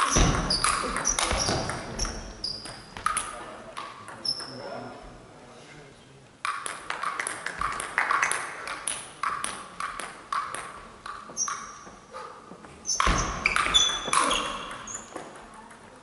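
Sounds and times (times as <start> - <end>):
table tennis ball bouncing: 0.0 - 4.6, 6.4 - 12.1, 12.9 - 16.0.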